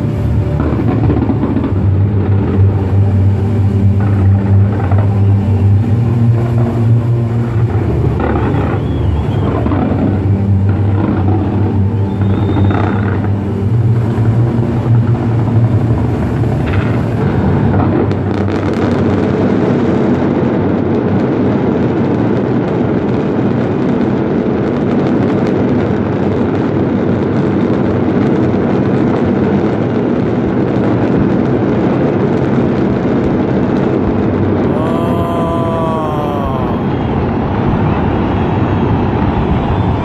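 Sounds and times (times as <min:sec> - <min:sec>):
fireworks crackling and banging: 0:00.0 - 0:34.8.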